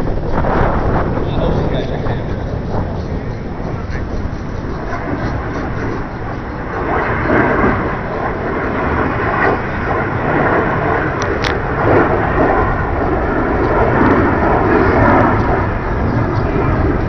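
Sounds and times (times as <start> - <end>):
jet engines roaring overhead: 0.0 - 17.0.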